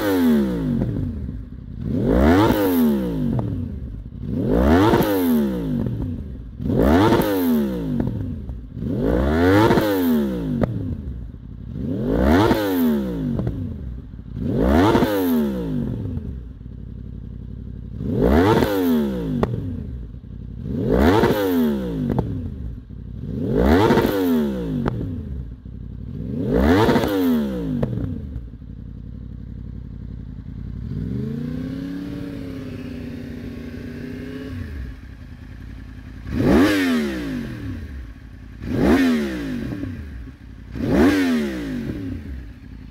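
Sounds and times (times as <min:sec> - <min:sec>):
motorcycle engine idling: 0:00.0 - 0:42.9
motorcycle engine revving: 0:00.0 - 0:42.9.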